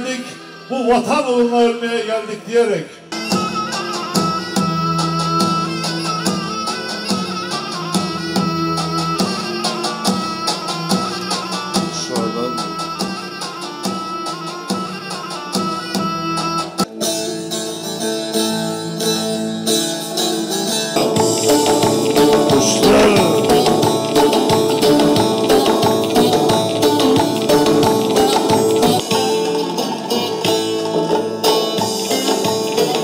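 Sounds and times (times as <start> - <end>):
folk music with held notes: 3.1 - 33.0
percussion: 3.1 - 33.0.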